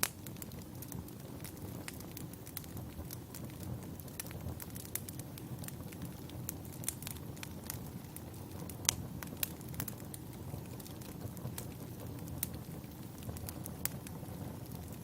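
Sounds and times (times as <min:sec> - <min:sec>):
crackles and pops of burning logs: 0:00.0 - 0:15.0
wood fire rumble: 0:00.0 - 0:15.0.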